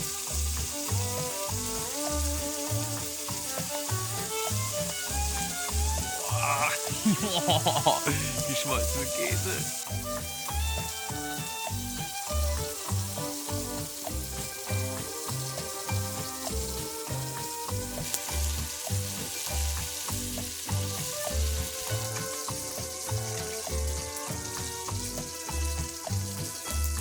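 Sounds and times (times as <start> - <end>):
food frying sizzle: 0.0 - 27.0
music with bass beat: 0.0 - 27.0.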